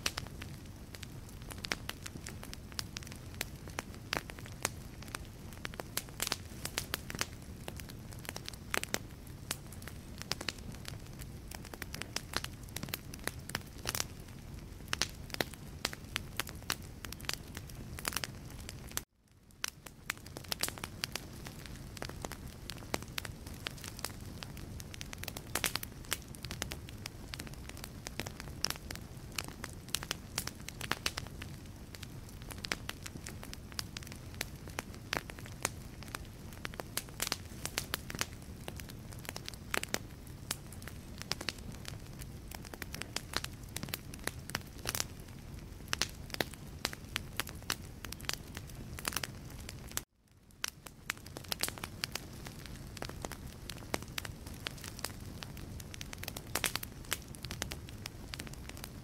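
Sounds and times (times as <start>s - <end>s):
logs crackling and popping: 0.0s - 59.0s
low rumble of flames: 0.0s - 59.0s.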